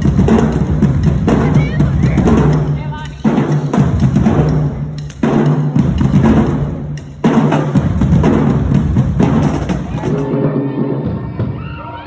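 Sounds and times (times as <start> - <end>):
marching band playing: 0.0 - 11.6
drums: 0.0 - 12.0.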